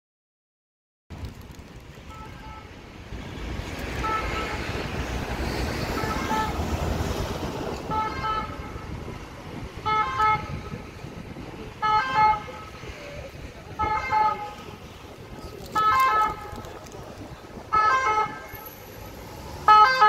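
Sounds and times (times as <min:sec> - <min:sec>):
city traffic noise: 0:01.1 - 0:20.0.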